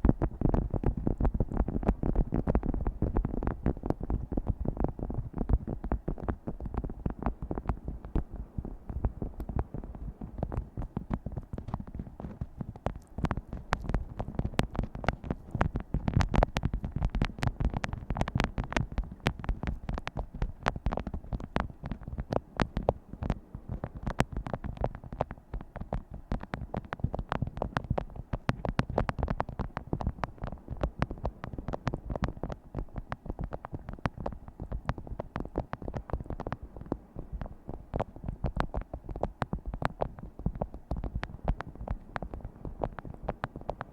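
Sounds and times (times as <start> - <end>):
fingers tapping rapidly: 0.0 - 43.9.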